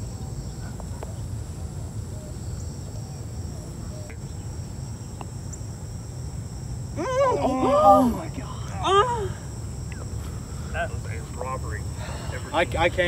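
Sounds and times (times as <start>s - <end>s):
insects droning: 0.0s - 13.0s
low outdoor rumble: 0.0s - 13.0s.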